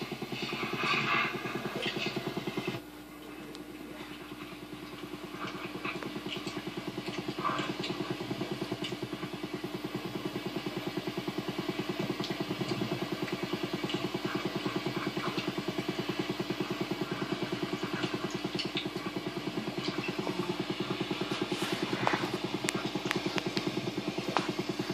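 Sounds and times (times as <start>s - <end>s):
motor humming with fast pulse: 0.0s - 24.9s.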